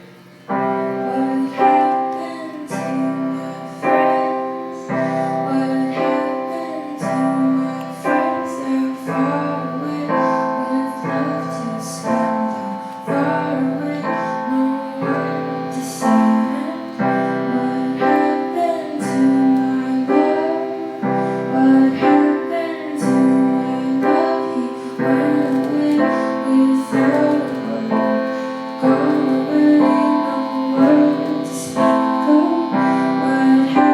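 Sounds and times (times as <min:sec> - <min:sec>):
keyboard playing chords: 0:00.0 - 0:33.9
woman singing: 0:00.5 - 0:33.9.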